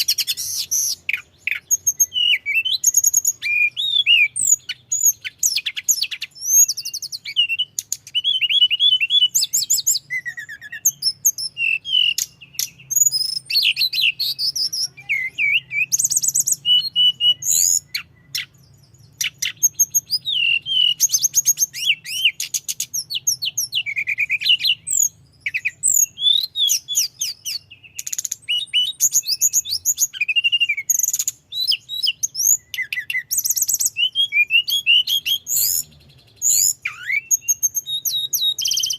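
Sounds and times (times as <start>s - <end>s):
songbird singing trills: 0.0s - 38.9s.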